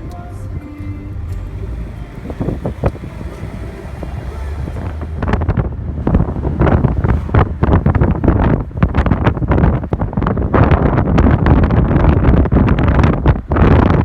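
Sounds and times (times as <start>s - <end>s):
steady rushing noise: 0.0s - 14.0s
wind buffeting microphone: 0.0s - 14.0s.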